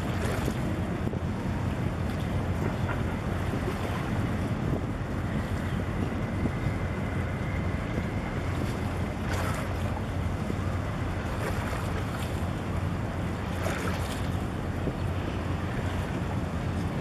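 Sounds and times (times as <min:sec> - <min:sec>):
water lapping: 0:00.0 - 0:17.0
wind buffeting the microphone: 0:00.0 - 0:17.0.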